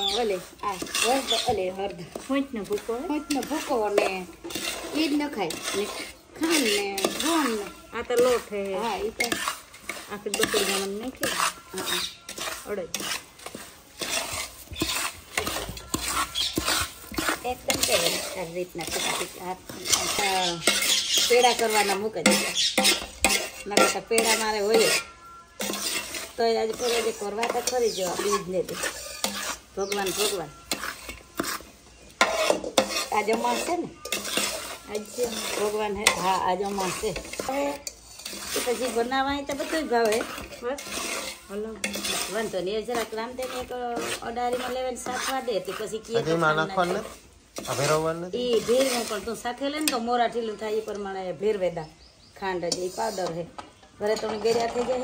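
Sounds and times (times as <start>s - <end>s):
spoon scraping metal pot: 0.0s - 55.0s.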